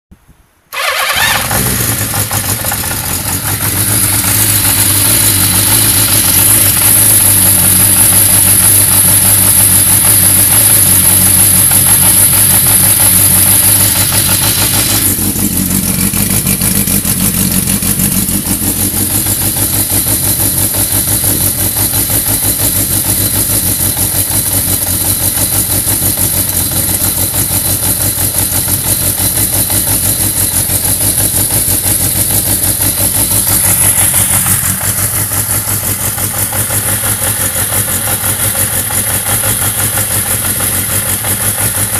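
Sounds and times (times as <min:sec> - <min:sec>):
motorcycle engine idling roughly: 0:00.7 - 0:41.9.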